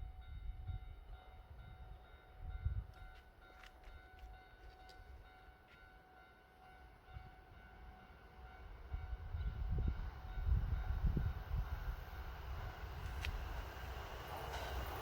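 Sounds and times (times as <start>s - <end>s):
distant electric train rumble: 0.0s - 15.0s.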